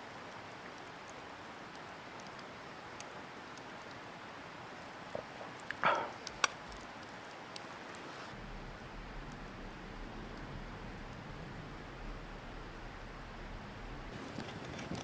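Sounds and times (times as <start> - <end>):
campfire hissing: 0.0 - 15.0
fire crackling and popping: 0.0 - 15.0.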